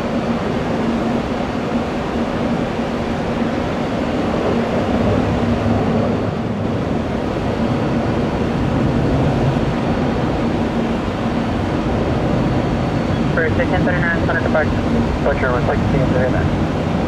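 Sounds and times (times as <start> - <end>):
jet engine rumble and whine: 0.0 - 17.0.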